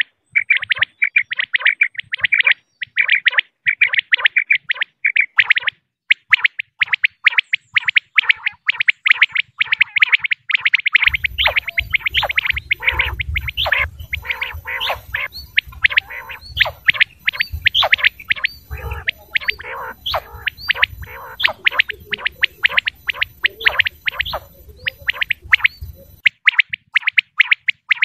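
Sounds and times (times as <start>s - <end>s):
quail rapid chirping: 0.0s - 28.0s.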